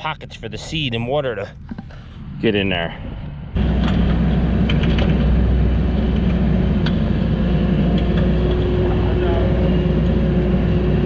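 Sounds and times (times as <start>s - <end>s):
diesel engine running under load: 1.4s - 11.0s.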